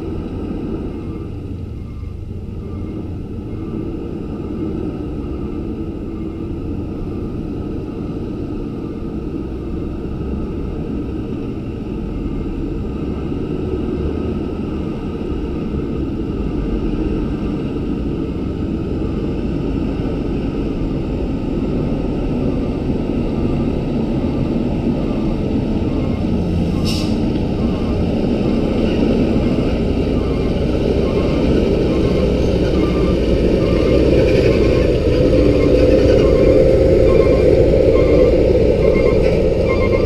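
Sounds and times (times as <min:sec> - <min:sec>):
diesel truck engine rumble: 0:00.0 - 0:40.0.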